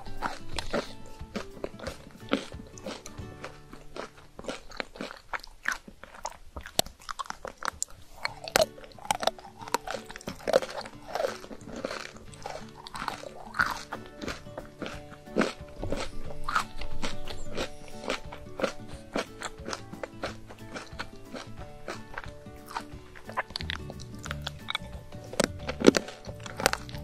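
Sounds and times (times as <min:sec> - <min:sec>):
crunching and chewing cookie: 0:00.0 - 0:27.0.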